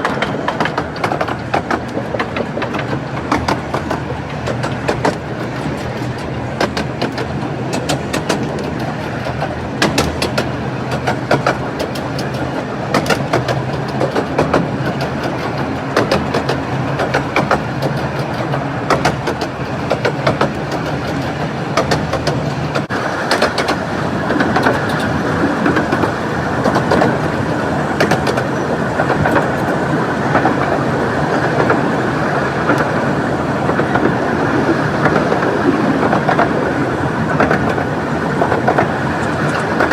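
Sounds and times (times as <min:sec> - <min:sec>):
train wheels rumbling on track: 0:00.0 - 0:39.9
wheels clicking over rail joints: 0:00.0 - 0:39.9.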